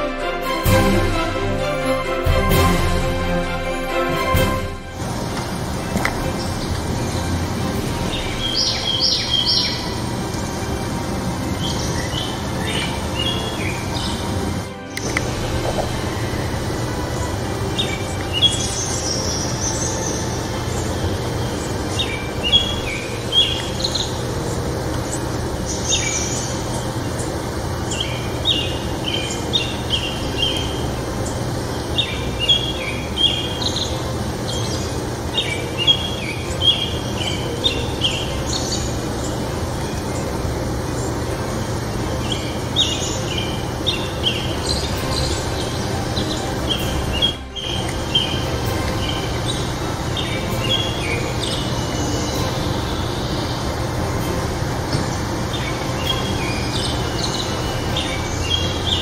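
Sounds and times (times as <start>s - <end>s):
steady background hiss: 0.0s - 59.0s
small birds chirping: 5.2s - 59.0s.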